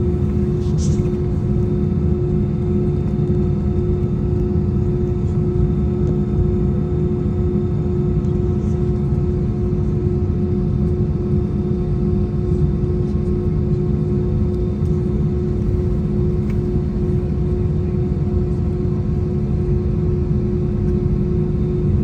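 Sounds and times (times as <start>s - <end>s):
jet engines rumbling in cabin: 0.0s - 22.0s.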